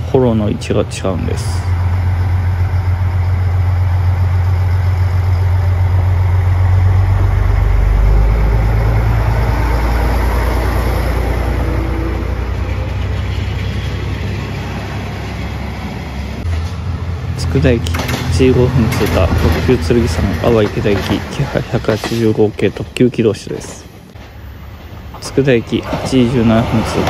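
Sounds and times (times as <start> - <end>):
diesel railcar engine droning: 0.0 - 27.0.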